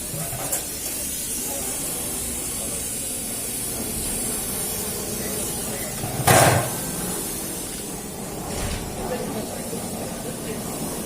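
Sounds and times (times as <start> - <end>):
fogging machine hissing: 0.0 - 11.0.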